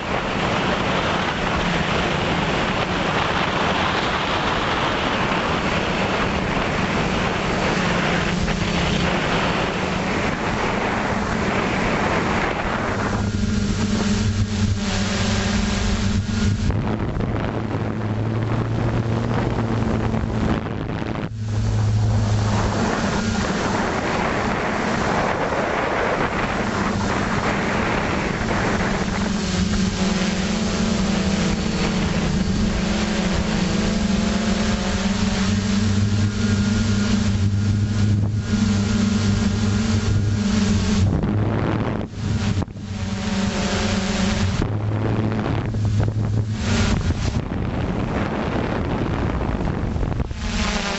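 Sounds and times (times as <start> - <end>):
motors and propellers buzzing: 0.0 - 50.9
wind rushing over microphone: 0.0 - 50.9.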